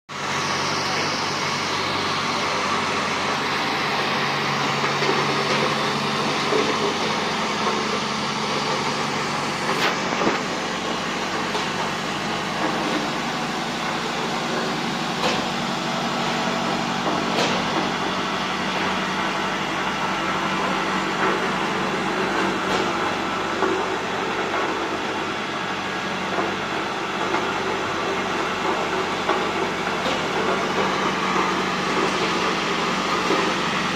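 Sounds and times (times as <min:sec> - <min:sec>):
road roller engine running: 0:00.1 - 0:33.9.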